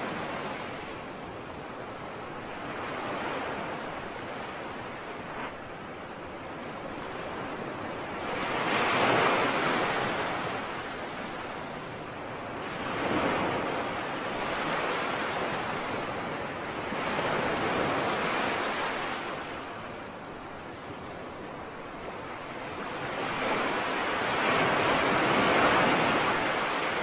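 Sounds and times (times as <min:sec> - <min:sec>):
sea waves surging: 0:02.4 - 0:27.0.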